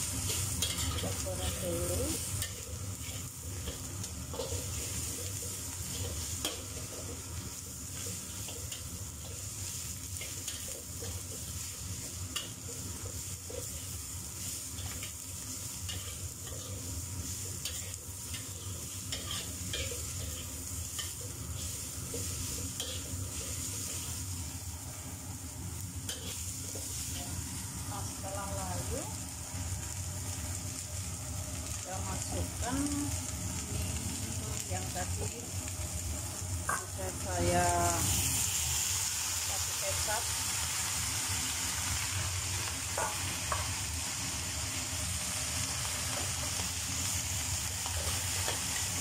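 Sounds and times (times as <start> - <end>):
vegetables sizzling in a wok: 0.0 - 49.0.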